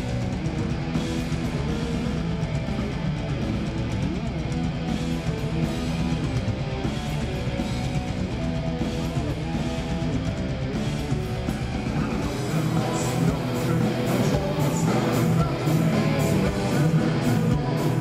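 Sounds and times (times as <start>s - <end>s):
drums: 0.0s - 18.0s
electric guitars: 0.0s - 18.0s.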